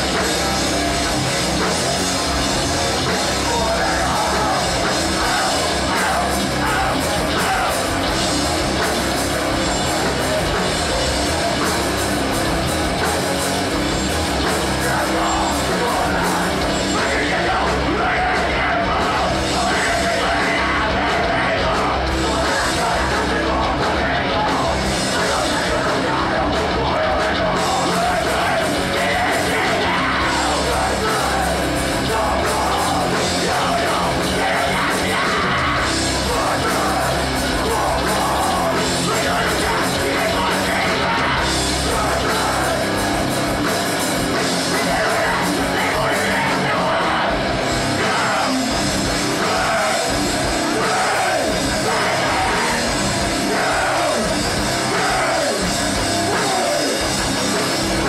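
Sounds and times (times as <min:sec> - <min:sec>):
rock band playing: 0:00.0 - 0:58.0
shouted vocals: 0:02.3 - 0:08.3, 0:14.4 - 0:58.0.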